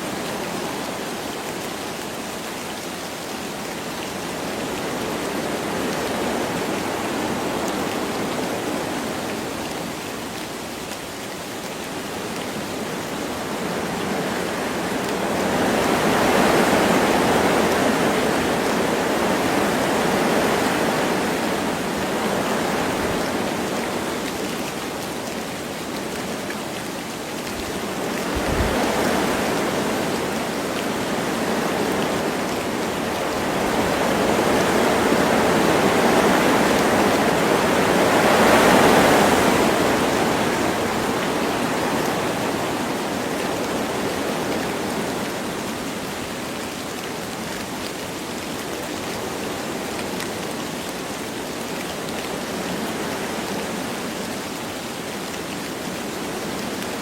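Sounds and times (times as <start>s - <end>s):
light rain falling: 0.0s - 57.0s
wind gusting through trees: 0.0s - 57.0s.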